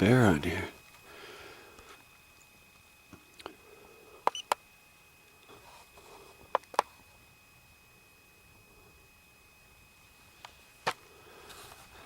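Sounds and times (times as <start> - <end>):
faint high electronic whine: 0.0 - 12.0.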